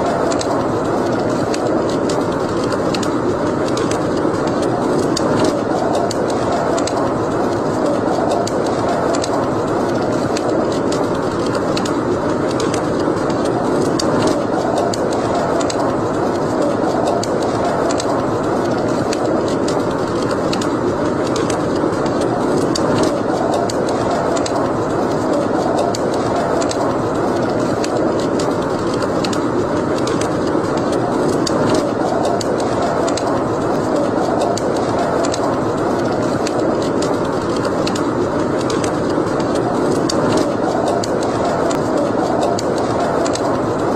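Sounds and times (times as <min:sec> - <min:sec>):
fire rushing noise: 0:00.0 - 0:43.9
wood fire crackling and popping: 0:00.0 - 0:43.9.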